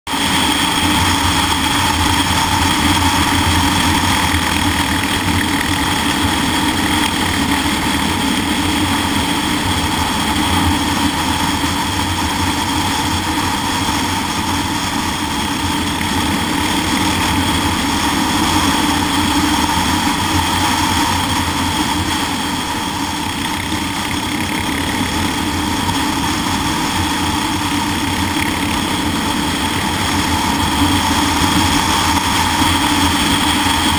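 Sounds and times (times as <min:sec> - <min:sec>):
motorcycle engine cruising: 0:00.1 - 0:33.9.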